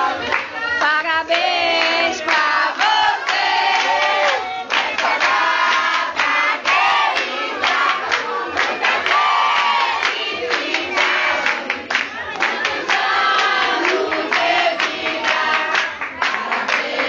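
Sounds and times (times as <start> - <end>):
crowd singing: 0.0 - 17.0.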